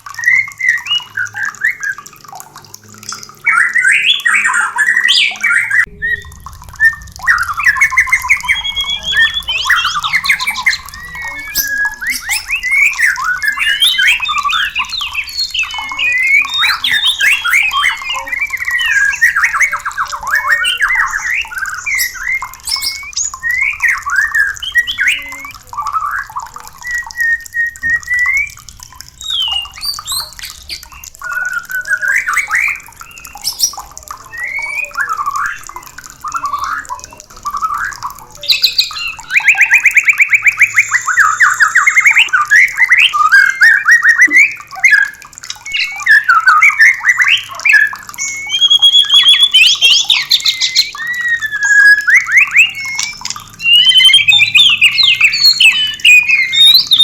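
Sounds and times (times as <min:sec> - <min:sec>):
birds whistling and rattling calls: 0:00.0 - 0:57.0.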